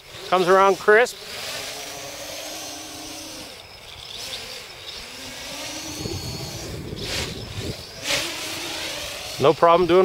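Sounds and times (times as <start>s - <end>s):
quadcopter propellers whining: 0.0s - 10.0s.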